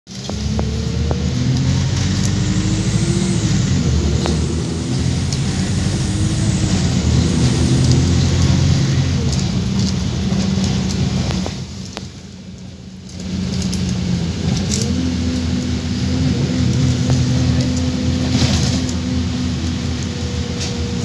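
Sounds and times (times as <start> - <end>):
bus diesel engine accelerating: 0.1 - 21.0
gearbox whine: 0.1 - 21.0.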